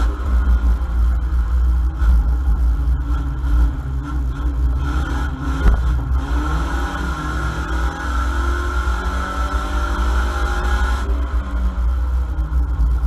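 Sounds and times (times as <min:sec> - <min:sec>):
engine rumble from inside car: 0:00.0 - 0:13.0.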